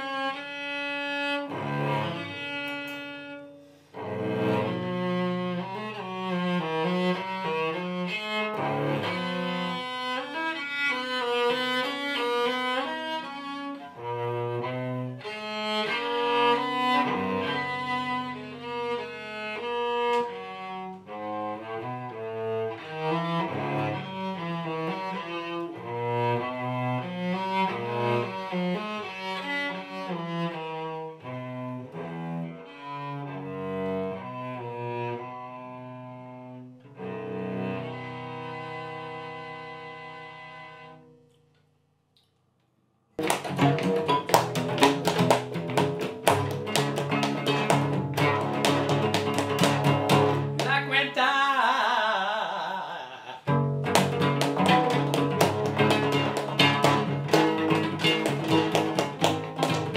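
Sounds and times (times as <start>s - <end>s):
bowed cello melody: 0.0s - 41.3s, 43.2s - 50.9s, 53.0s - 59.9s.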